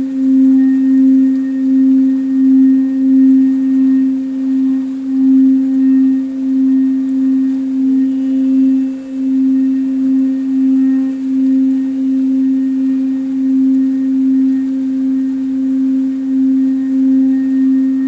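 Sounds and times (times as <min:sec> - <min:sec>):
singing bowl ringing: 0:00.0 - 0:18.0.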